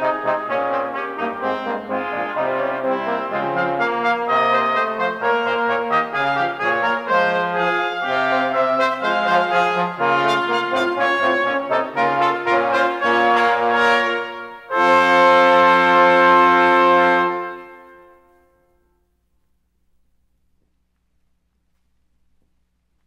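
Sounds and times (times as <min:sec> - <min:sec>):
brass quintet playing: 0:00.0 - 0:18.9.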